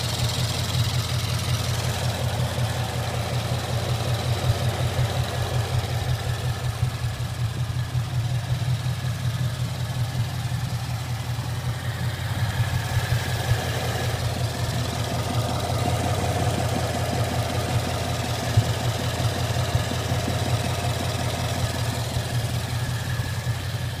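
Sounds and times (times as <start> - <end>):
car engine idling with knocking: 0.0 - 24.0.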